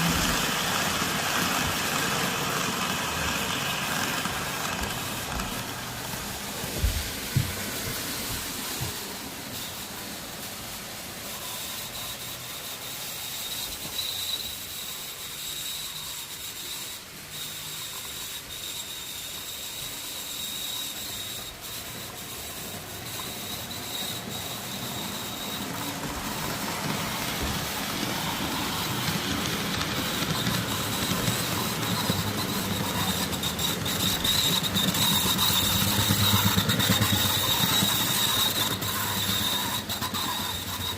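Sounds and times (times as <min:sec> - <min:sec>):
model train motor whine: 0:00.0 - 0:40.9.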